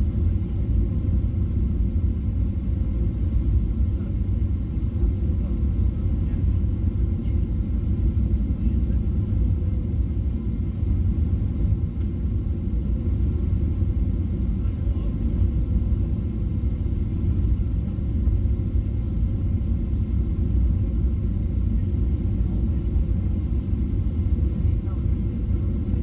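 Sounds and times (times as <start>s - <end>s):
aircraft cabin engine rumble: 0.0s - 26.0s
faint steady hum: 0.0s - 26.0s.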